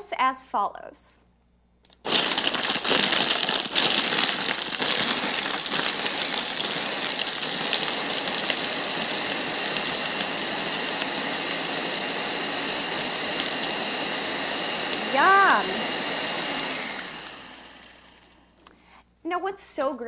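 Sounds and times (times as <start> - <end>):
blender crushing ice: 2.0 - 18.5
ice clattering in blender: 2.1 - 18.4.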